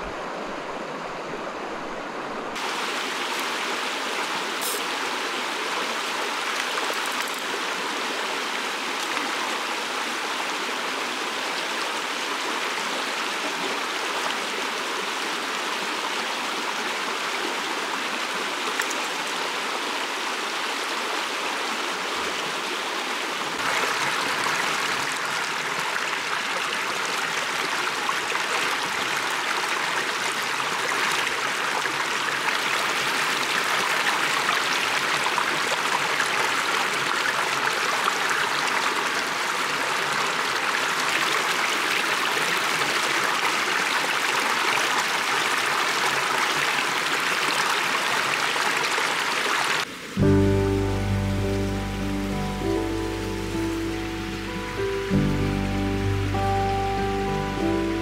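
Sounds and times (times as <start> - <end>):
stream babbling over stones: 0.2 - 50.3.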